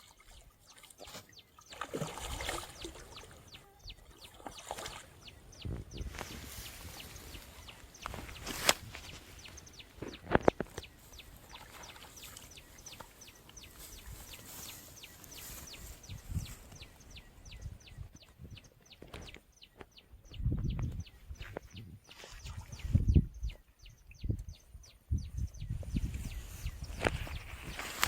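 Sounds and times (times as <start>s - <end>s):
bird chirping: 0.2s - 28.0s.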